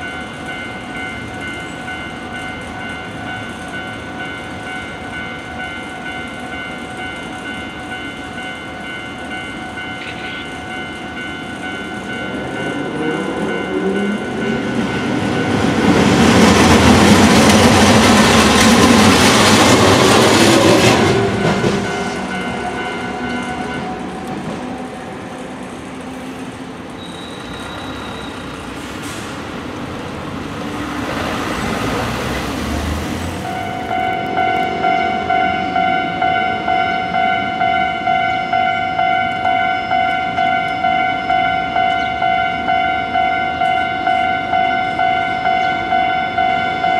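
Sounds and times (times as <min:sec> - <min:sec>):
level crossing alarm bells: 0:00.0 - 0:24.6, 0:33.4 - 0:46.9
tram rolling over crossing: 0:00.0 - 0:46.9.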